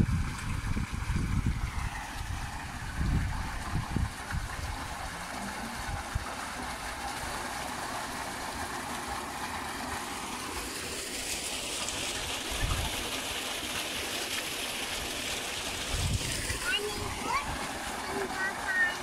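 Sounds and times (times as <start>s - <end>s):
water gushing into a tank: 0.0s - 19.0s.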